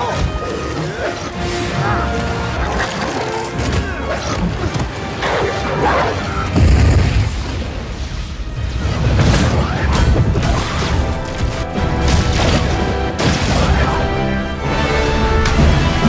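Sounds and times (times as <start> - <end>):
orchestral score: 0.0 - 16.0.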